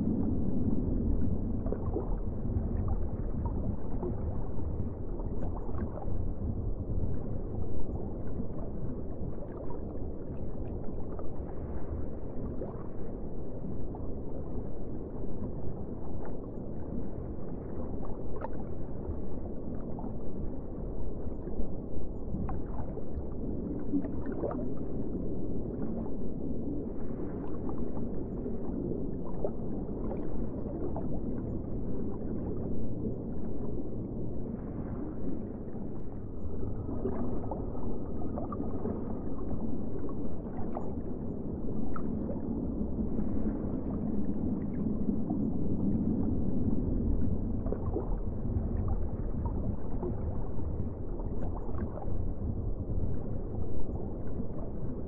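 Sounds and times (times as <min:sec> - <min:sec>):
muffled underwater rumble: 0:00.0 - 0:55.0
water bubbling gurgles: 0:00.0 - 0:55.0.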